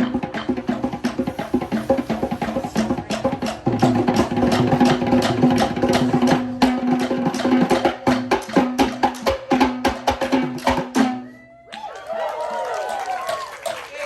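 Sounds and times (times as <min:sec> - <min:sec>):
drum ensemble fast rhythm: 0:00.0 - 0:11.3, 0:12.7 - 0:14.0.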